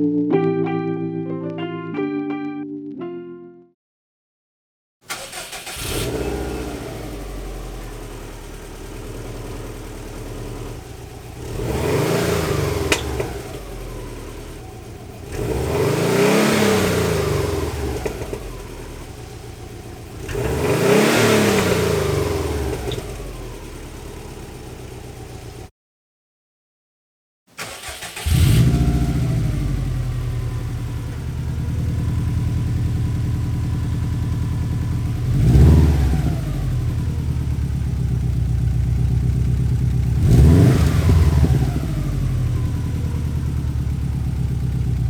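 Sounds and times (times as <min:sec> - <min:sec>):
car engine revving: 0:05.1 - 0:25.6, 0:27.6 - 0:45.0.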